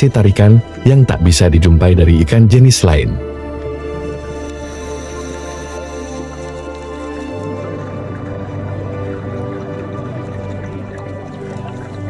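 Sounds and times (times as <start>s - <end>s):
slow ambient pad music: 0.0s - 12.0s.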